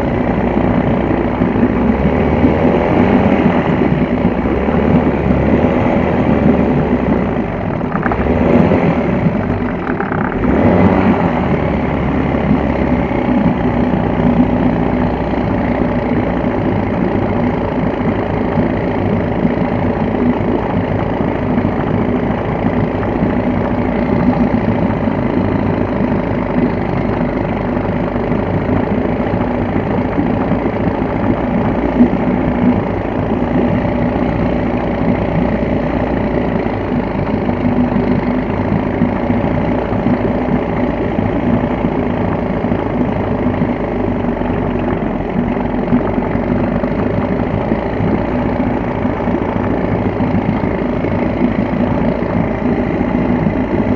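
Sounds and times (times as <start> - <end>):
outboard motor idling: 0.0 - 53.9.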